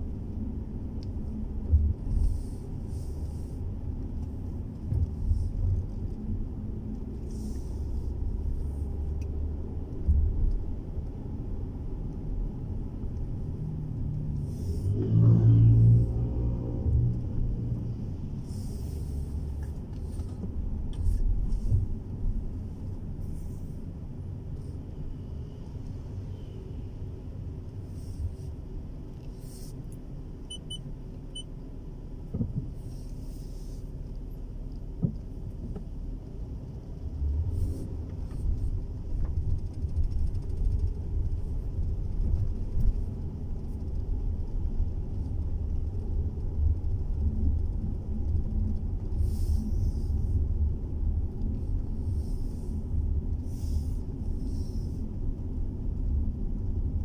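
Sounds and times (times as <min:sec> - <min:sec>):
car driving on wet road: 0:00.0 - 0:57.0.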